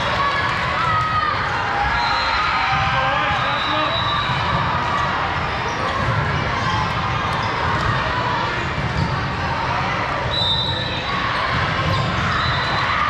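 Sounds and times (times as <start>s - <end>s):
murmur of many voices: 0.0s - 13.0s.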